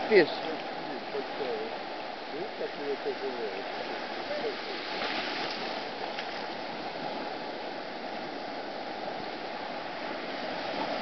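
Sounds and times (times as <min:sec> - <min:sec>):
surf washing over sand: 0:00.0 - 0:11.0.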